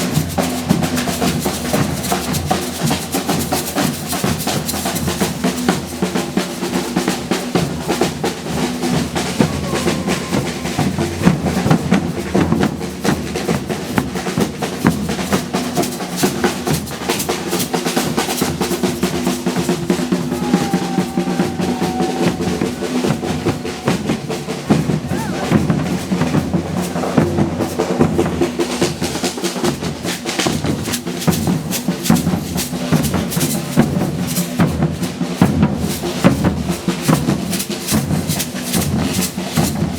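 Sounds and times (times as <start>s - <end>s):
percussion band playing fast groove: 0.0s - 39.9s.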